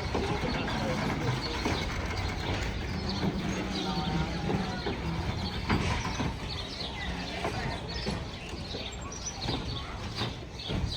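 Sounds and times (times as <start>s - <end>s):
train clanks: 0.0s - 10.9s.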